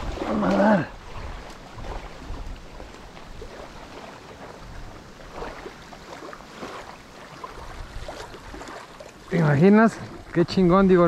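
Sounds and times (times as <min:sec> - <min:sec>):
waves lapping on gravel shore: 0:00.0 - 0:10.5
wind buffeting microphone: 0:00.0 - 0:11.0.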